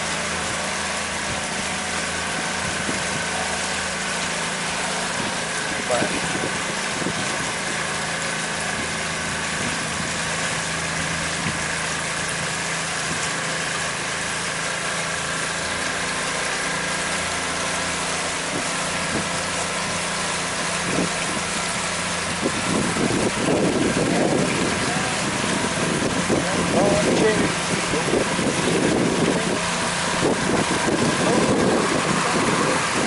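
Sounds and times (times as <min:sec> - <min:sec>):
hiss of water and wind: 0:00.0 - 0:33.0
outboard motor running: 0:00.0 - 0:33.0.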